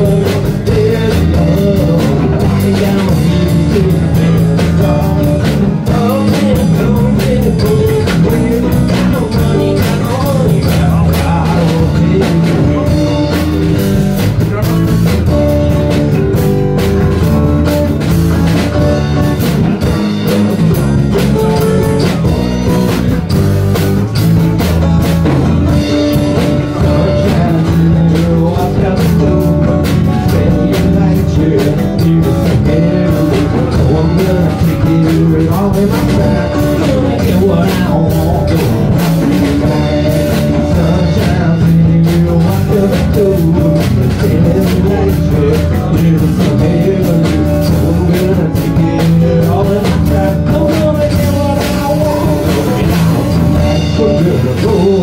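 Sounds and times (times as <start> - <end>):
drum kit steady beat: 0.0 - 55.0
guitar: 0.0 - 55.0
rock band playing live: 0.0 - 55.0.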